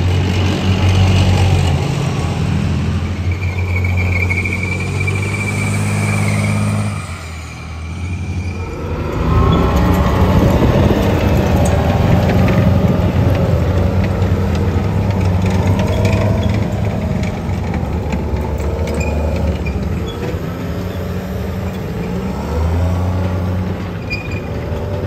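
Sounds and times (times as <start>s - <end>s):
steel tracks clattering: 0.0s - 25.0s
tracked vehicle engine: 0.0s - 25.0s.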